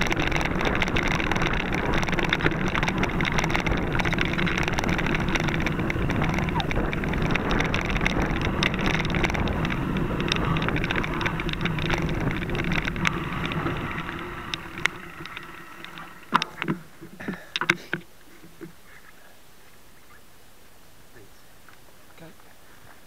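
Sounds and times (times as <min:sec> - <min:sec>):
sharp clicks and knocks: 0:00.0 - 0:18.8
small rattling clicks: 0:00.0 - 0:18.8
bike rolling on dirt trail: 0:00.0 - 0:23.0.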